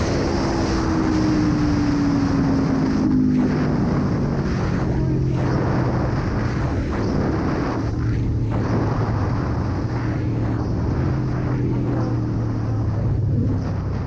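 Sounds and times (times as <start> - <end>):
motorcycle engine running: 0.0 - 14.0
wind rushing: 0.0 - 14.0.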